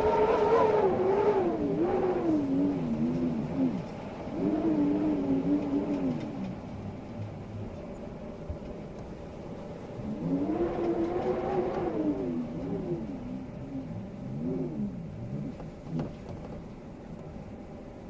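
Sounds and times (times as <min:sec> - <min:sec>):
steady rush of air: 0:00.0 - 0:15.8
wind howling: 0:00.0 - 0:18.0.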